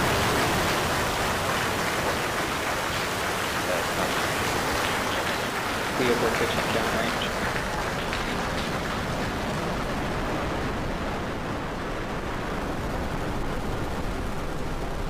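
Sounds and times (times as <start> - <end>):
rocket engines roaring: 0.0 - 15.0.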